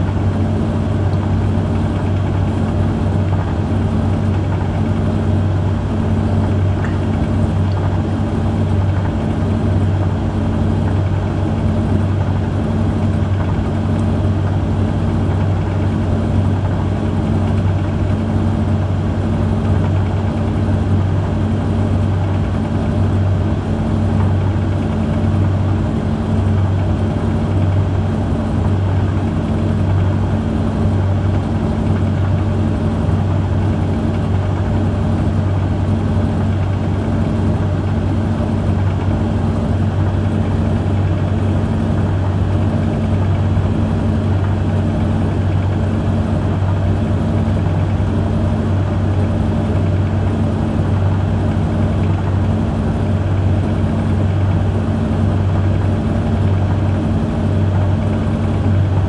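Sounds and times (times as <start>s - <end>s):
washer-dryer motor and fan hum: 0.0s - 59.0s.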